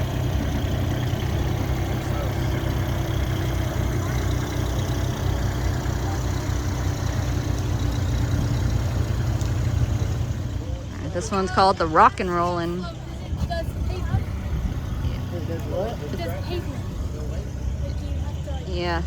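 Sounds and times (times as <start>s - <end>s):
construction machine engine droning: 0.0s - 19.0s.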